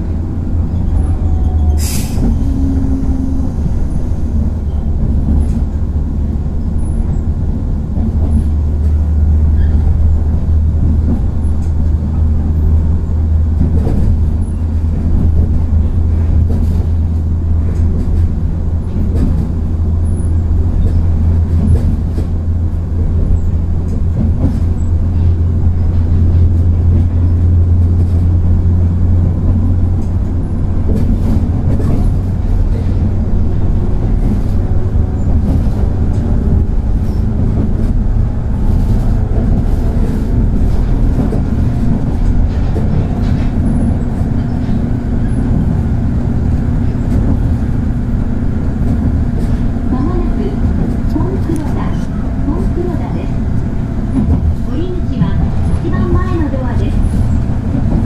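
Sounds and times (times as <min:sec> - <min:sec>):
electric train humming: 0:00.0 - 0:58.0.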